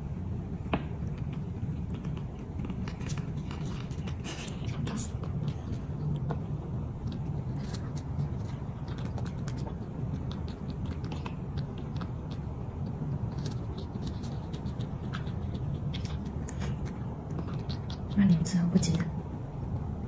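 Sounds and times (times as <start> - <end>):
steady low rumble: 0.0 - 20.0
cat crunching hard biscuit: 1.0 - 18.2.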